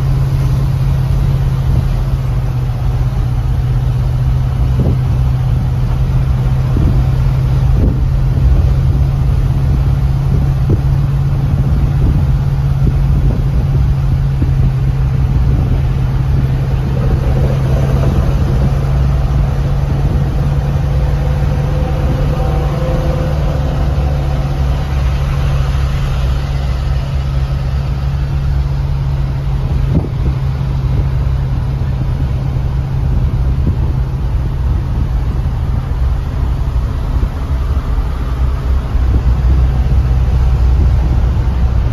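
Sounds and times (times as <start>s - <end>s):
passing truck: 0.0s - 41.9s
pickup engine hum: 0.0s - 41.9s
road noise: 0.0s - 41.9s.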